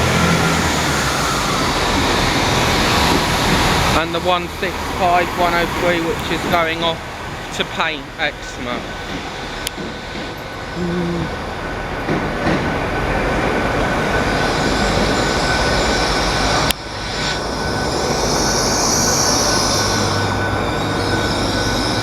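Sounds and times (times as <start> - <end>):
train rumble: 0.0 - 22.0
train wheels squealing on rails: 0.0 - 22.0.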